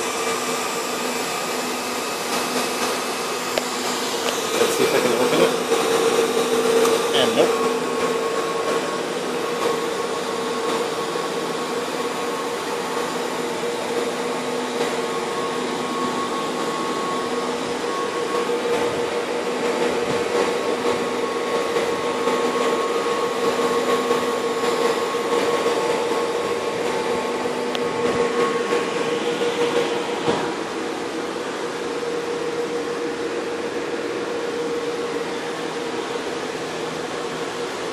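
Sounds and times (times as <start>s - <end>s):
cooling fans whirring: 0.0s - 37.9s.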